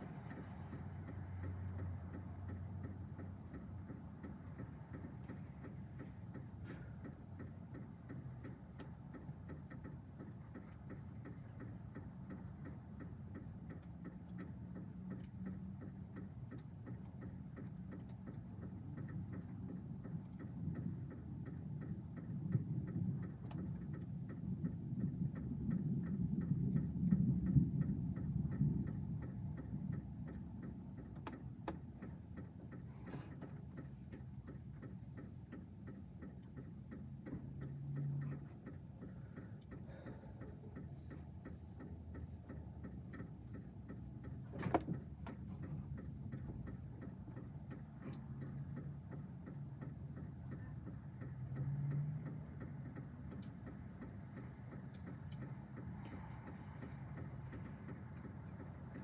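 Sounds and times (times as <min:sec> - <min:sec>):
light regular ticking: 0:00.0 - 0:59.0.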